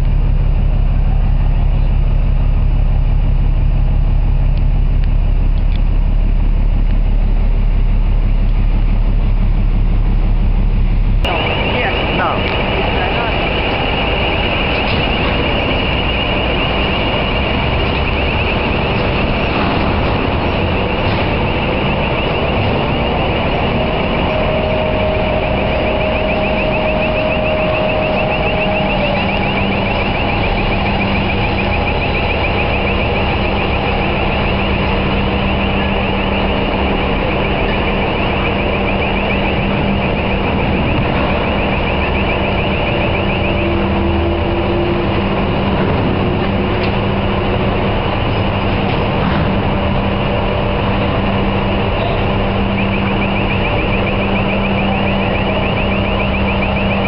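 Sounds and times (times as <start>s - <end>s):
high warbling warning alarm: 0.0s - 57.0s
lifting machinery humming: 0.0s - 57.0s.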